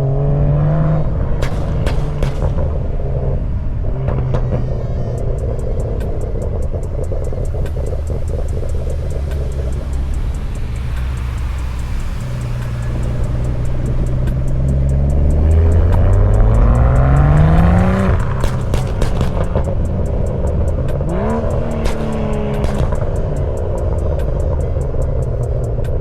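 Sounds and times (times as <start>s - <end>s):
car engine with exhaust crackles: 0.0s - 26.0s.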